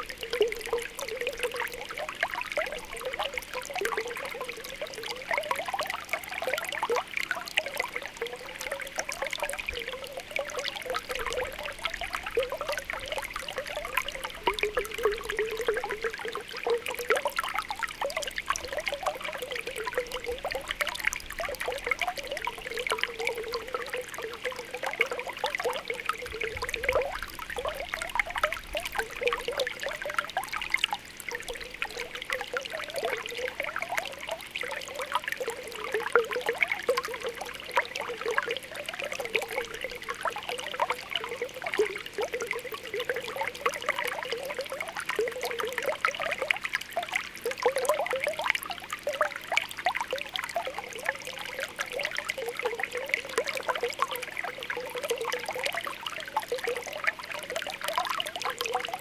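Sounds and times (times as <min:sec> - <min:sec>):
spring water bubbling: 0:00.0 - 0:59.0.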